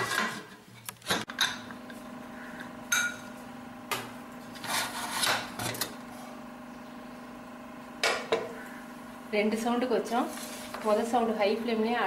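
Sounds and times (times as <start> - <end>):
steady low hum: 1.3 - 12.0.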